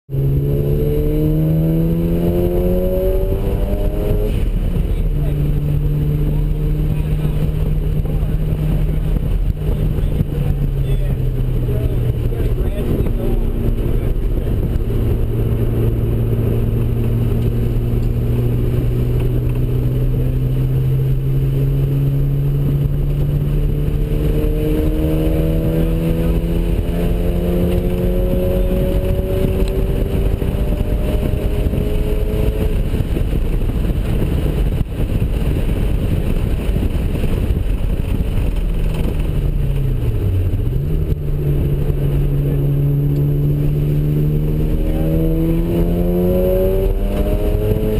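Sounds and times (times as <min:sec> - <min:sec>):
rotary engine at full throttle: 0:00.1 - 0:47.9.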